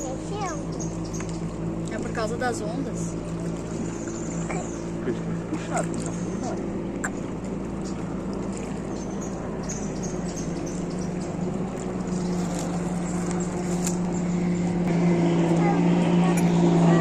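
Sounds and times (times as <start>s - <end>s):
motorboat engine humming: 0.0s - 17.0s.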